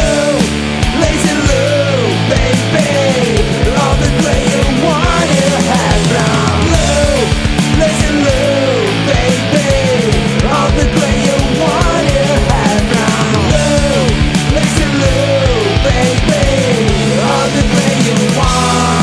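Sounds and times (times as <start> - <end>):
bass guitar: 0.0 - 19.0
drums: 0.0 - 19.0
electric guitars playing: 0.0 - 19.0
sliding lead melody: 0.0 - 19.0.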